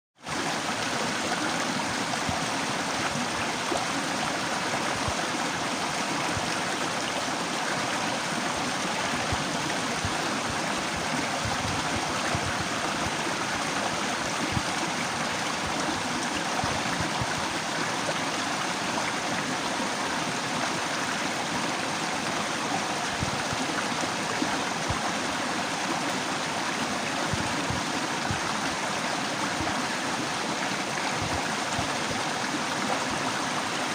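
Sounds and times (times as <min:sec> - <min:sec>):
small waterfall rushing: 0:00.2 - 0:33.9.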